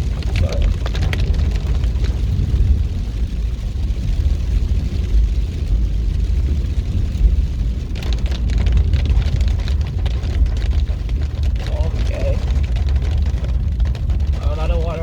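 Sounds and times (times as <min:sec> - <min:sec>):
car driving low rumble: 0:00.0 - 0:15.0
rain and tyres on wet road: 0:00.0 - 0:15.0.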